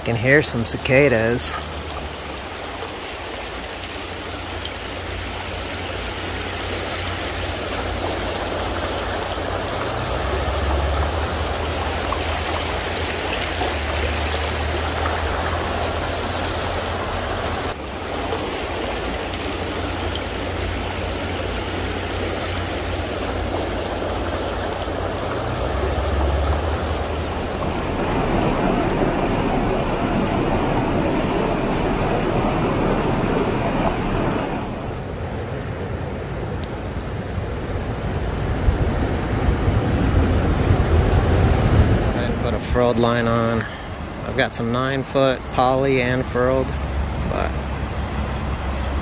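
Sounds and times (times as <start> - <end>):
creek water flowing: 0.0 - 49.0.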